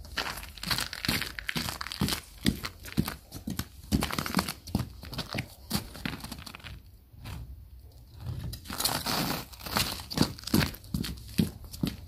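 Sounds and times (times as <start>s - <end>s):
footsteps on snow and ice: 0.0s - 7.4s, 8.7s - 12.0s.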